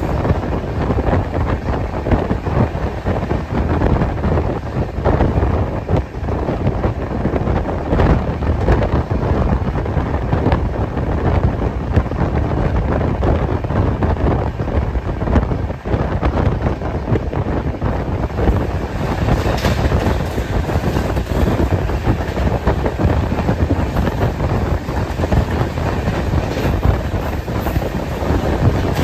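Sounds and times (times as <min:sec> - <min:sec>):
train wheels rumbling on rails: 0:00.0 - 0:29.0
wind buffeting microphone: 0:00.0 - 0:29.0.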